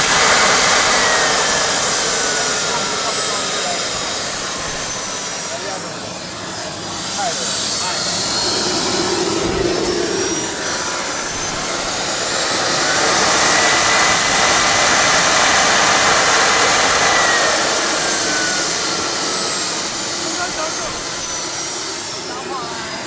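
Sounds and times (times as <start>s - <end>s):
gas turbine engine whining: 0.0s - 23.0s.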